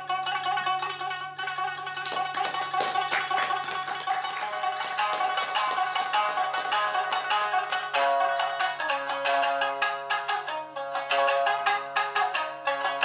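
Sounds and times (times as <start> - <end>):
shamisen plucked hard: 0.0 - 13.0.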